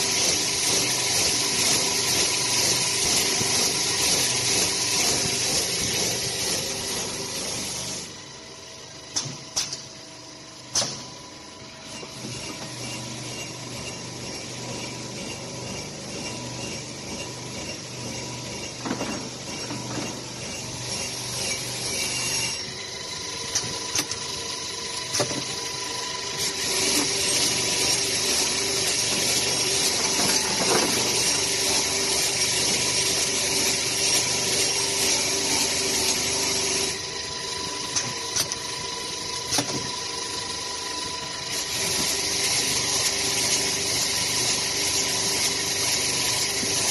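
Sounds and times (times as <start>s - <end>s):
polishing machine humming: 0.0s - 9.0s, 11.4s - 46.9s.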